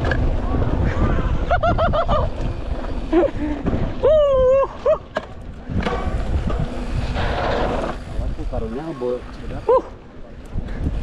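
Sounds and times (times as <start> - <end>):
bike trail noise: 0.0 - 11.0
wind rumbling: 0.0 - 11.0.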